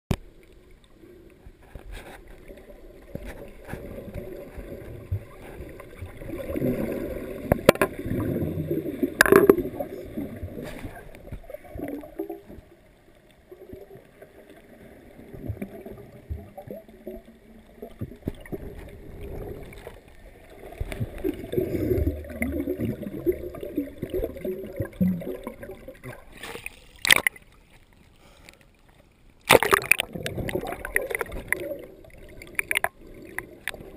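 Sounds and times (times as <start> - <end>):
underwater water gurgling: 0.1 - 33.9.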